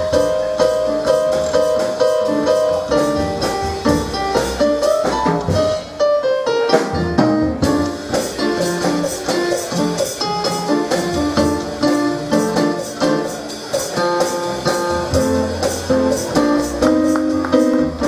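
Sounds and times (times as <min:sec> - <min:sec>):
jazz band playing live: 0:00.0 - 0:18.0.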